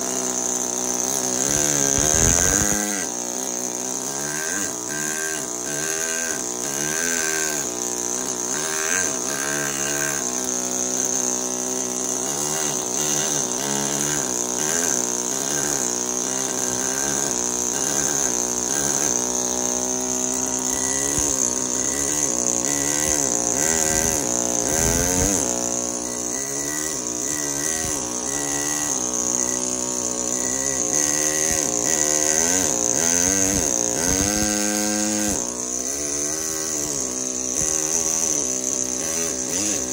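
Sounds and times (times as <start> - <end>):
pneumatic hammer buzzing: 0.0 - 39.9.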